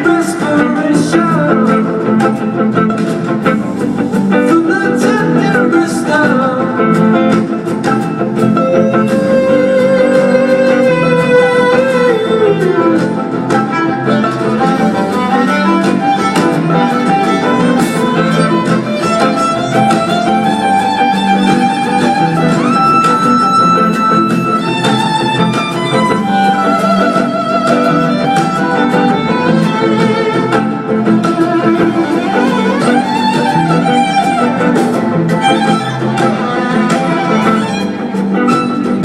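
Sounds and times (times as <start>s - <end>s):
bowed violin melody: 0.0s - 39.0s
plucked strings: 0.0s - 39.0s.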